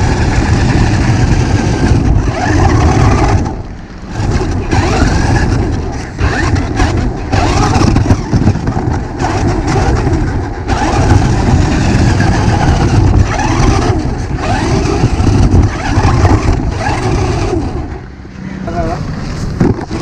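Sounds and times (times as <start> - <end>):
electric motor whining: 0.0 - 20.0
heavy rough rumble: 0.0 - 20.0.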